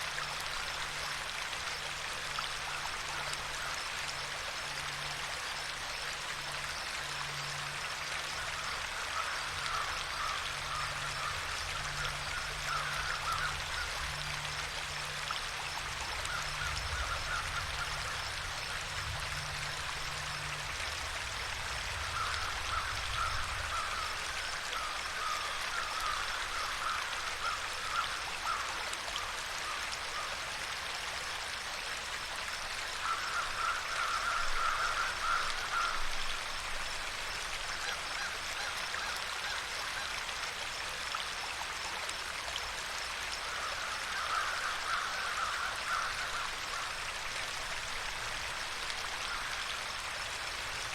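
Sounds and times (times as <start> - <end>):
stream rushing and trickling: 0.0 - 50.9.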